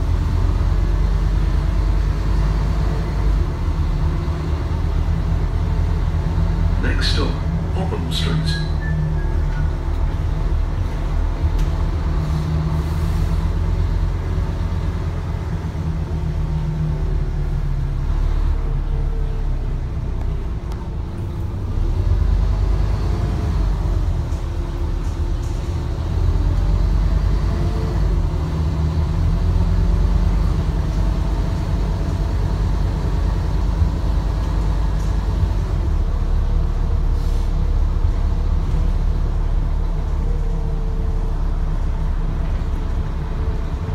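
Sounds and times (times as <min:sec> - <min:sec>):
bus engine running: 0:00.0 - 0:43.9.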